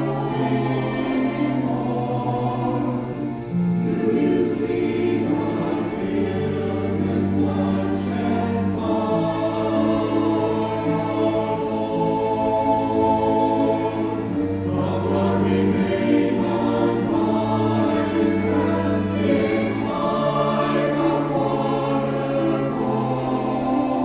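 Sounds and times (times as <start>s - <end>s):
church choir singing: 0.0s - 24.0s.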